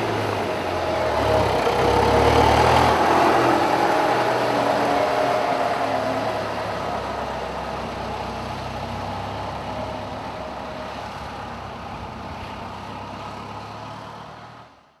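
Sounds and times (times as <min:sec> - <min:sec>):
diesel engine of vehicle driving away: 0:00.0 - 0:15.0.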